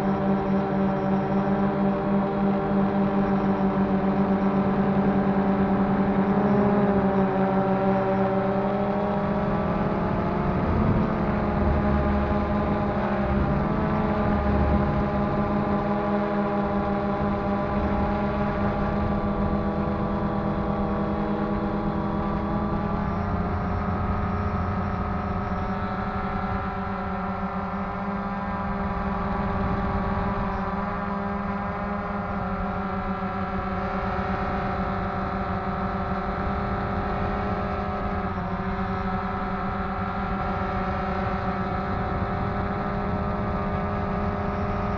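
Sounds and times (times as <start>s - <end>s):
drone propellers whirring: 0.0s - 44.9s.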